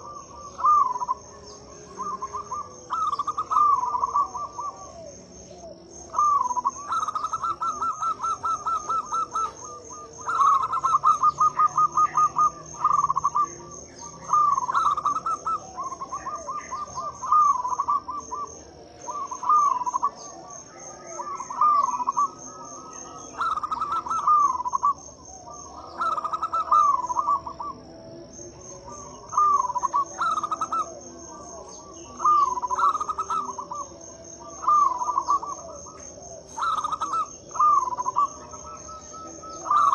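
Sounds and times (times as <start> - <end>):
dove cooing: 0.0 - 39.9
high-pitched insect trill: 0.0 - 39.9.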